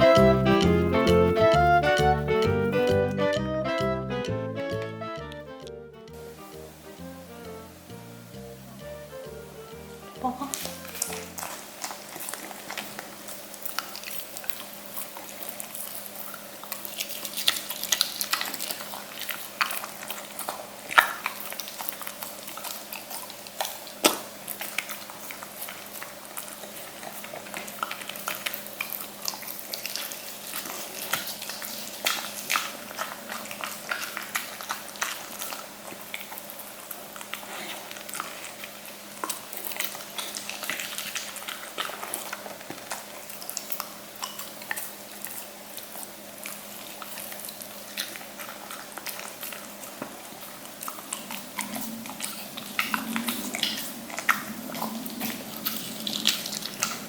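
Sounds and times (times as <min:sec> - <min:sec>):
dog chewing food: 0:00.0 - 0:05.7, 0:09.2 - 0:57.0.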